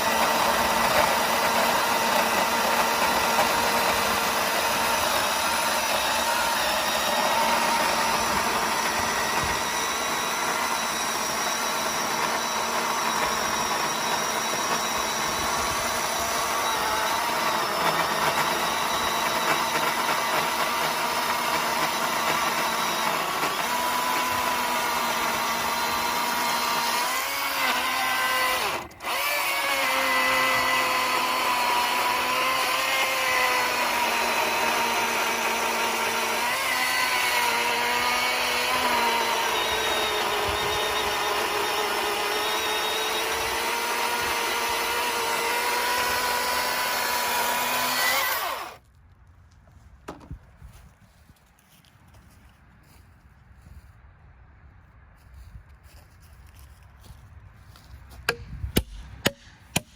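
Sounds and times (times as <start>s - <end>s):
cordless chainsaw cutting log: 0.0s - 48.8s, 58.3s - 59.9s.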